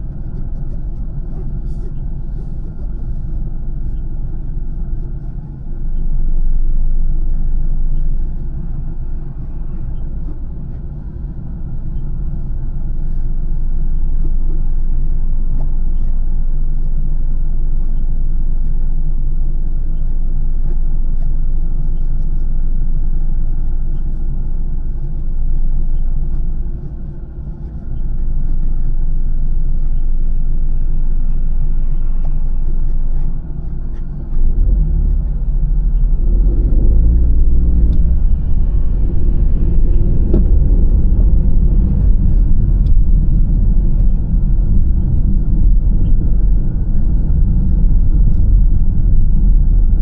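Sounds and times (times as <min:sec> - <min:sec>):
steady low rumble in car: 0:00.0 - 0:50.0.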